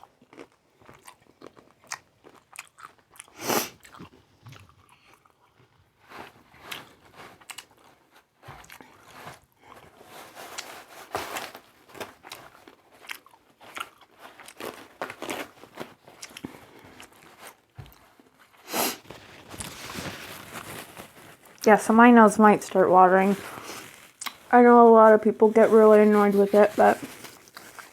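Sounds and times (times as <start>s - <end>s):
chewing and crunching food: 0.0s - 27.9s.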